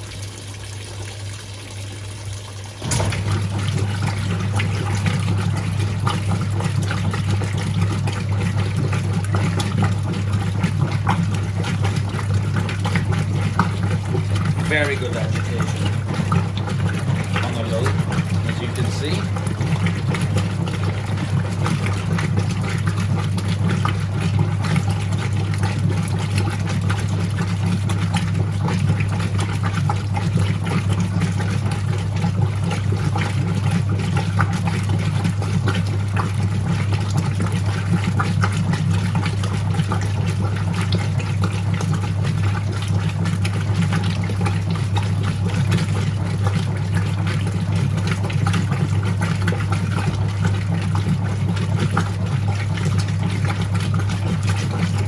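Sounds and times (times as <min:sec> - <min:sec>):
washing machine motor hum: 0:00.0 - 0:55.0
water sloshing in tub: 0:00.0 - 0:55.0.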